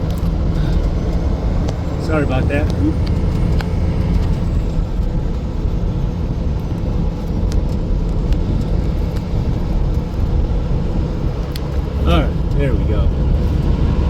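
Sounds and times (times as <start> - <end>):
vehicle driving road rumble: 0.0 - 14.0.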